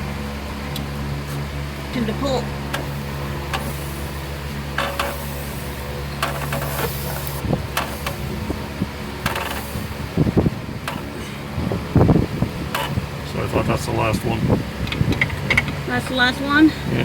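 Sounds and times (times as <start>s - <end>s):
shop fan humming: 0.0s - 17.0s.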